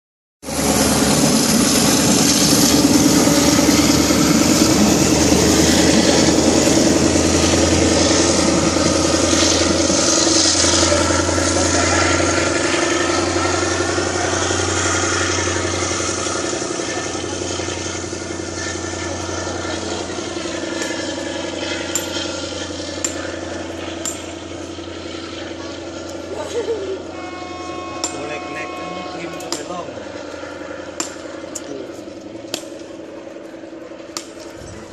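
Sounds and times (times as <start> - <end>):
diesel train engine drone: 0.4 - 34.9.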